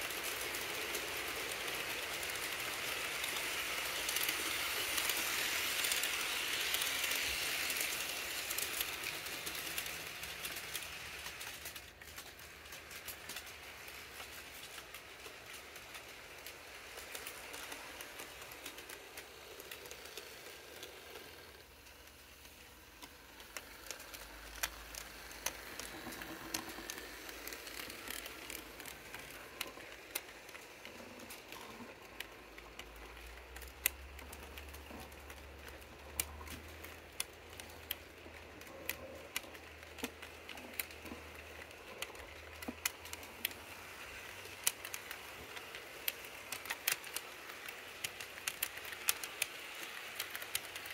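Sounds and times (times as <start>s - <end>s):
model train wheels clicking: 0.0s - 50.9s.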